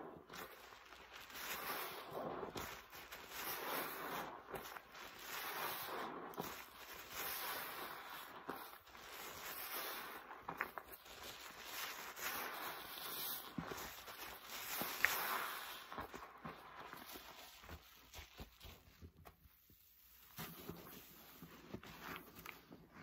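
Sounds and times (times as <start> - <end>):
sponge squelching suds: 0.0 - 23.0.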